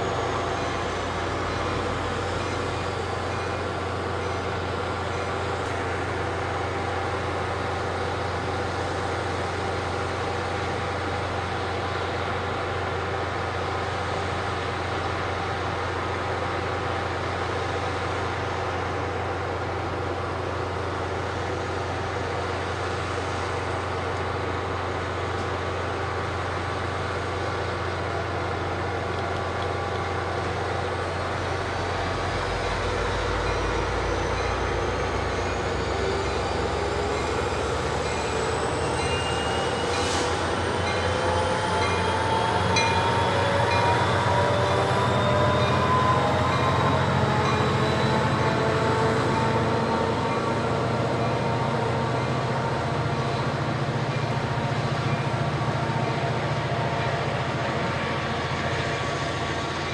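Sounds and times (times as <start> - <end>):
train locomotive idling: 0.0 - 59.9.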